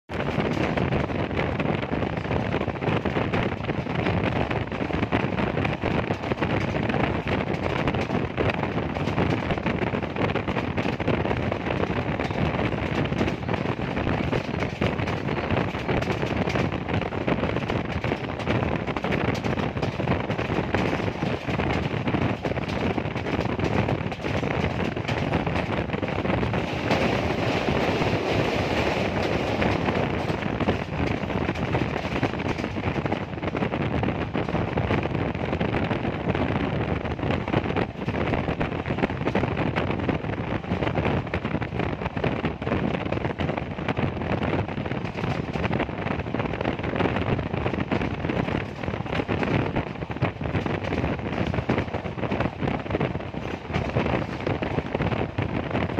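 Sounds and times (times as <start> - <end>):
train wheels rumbling on track: 0.0 - 55.9
wind buffeting microphone: 0.0 - 55.9.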